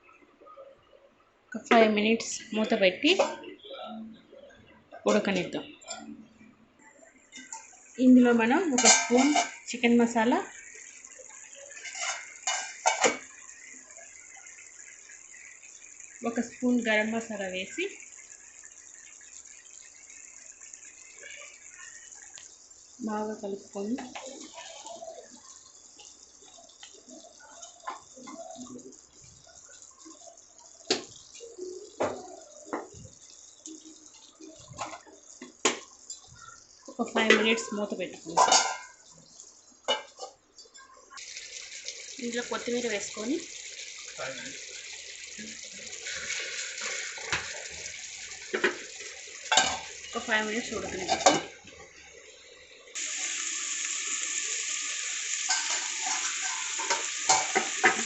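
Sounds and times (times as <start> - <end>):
curry sizzling in a pan: 6.8 - 58.0
curry bubbling: 7.3 - 58.0.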